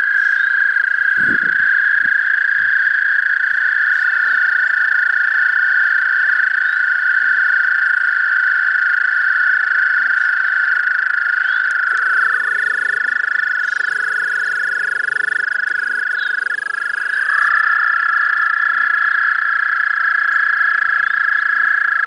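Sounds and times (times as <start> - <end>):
toads trilling in chorus: 0.0 - 22.0.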